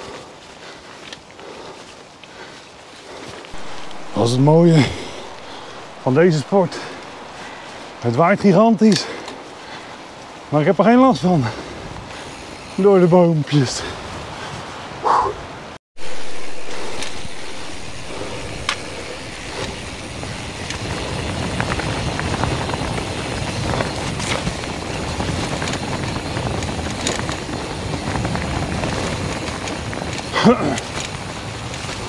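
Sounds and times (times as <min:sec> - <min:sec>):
wind buffeting microphone: 0:01.4 - 0:32.0.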